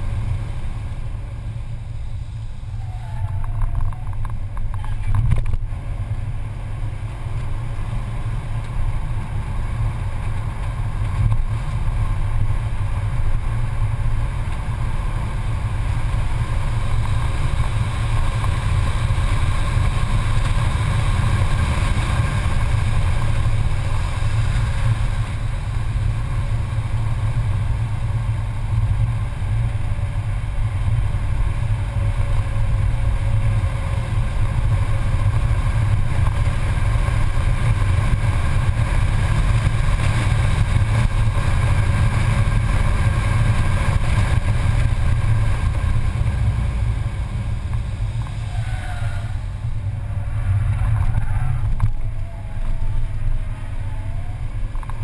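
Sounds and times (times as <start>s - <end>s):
car engine running hard: 0.0s - 55.0s
road and wind noise: 0.0s - 55.0s.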